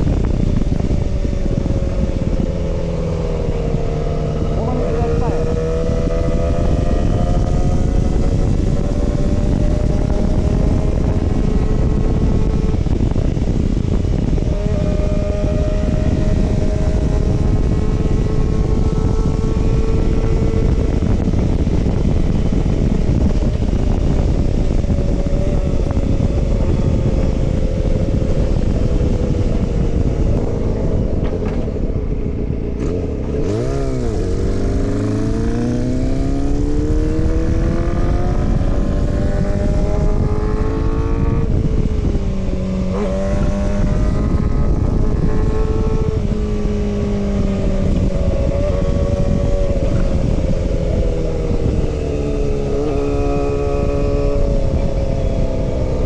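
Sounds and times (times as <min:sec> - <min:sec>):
motorcycle engine while riding: 0:00.0 - 0:56.0
wind noise on microphone: 0:00.0 - 0:56.0.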